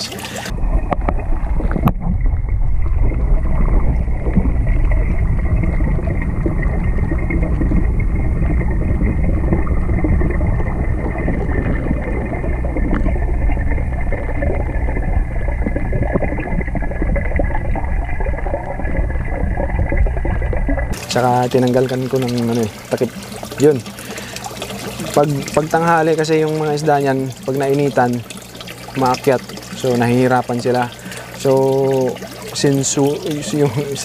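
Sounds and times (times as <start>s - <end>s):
filter bubbling: 0.0s - 34.0s
muffled rush of water: 0.0s - 34.0s.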